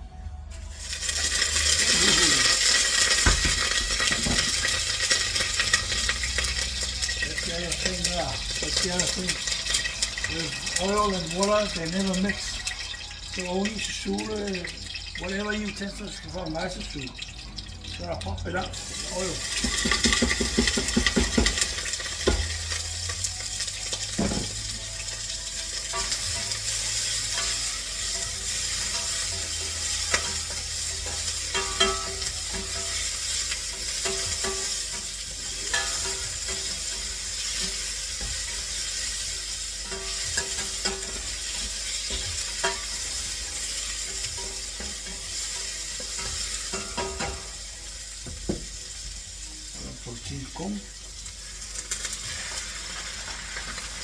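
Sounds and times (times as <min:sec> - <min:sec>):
food sizzling in hot oil: 0:00.5 - 0:54.0
utensil stirring in a pan: 0:00.6 - 0:54.0.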